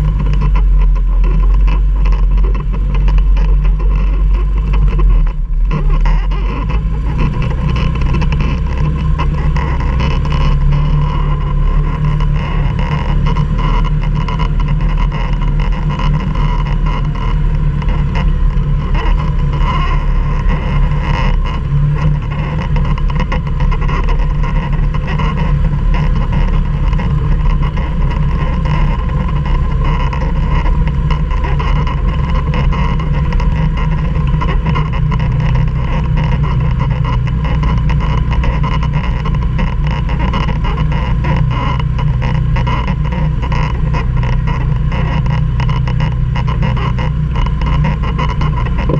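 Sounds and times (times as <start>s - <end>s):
quad engine running: 0.0s - 48.9s.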